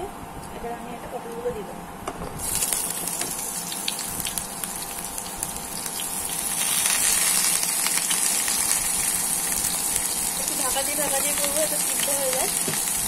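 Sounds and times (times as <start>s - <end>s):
vegetables sizzling in hot oil: 2.4s - 13.0s.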